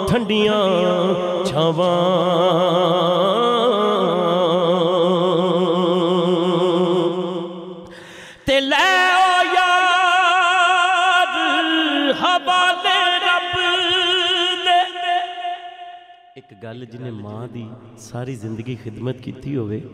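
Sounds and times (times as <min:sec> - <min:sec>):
man singing with vibrato: 0:00.0 - 0:18.6.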